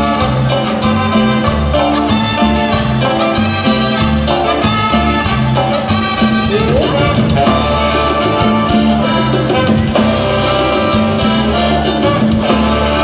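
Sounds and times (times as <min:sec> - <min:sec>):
live band playing latin dance music: 0:00.0 - 0:13.0.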